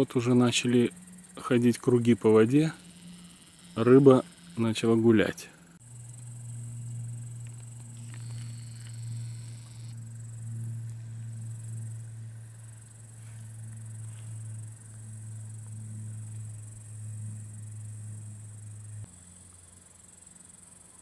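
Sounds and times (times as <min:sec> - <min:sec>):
insects chirring: 0:00.0 - 0:21.0
low steady hum: 0:00.0 - 0:21.0.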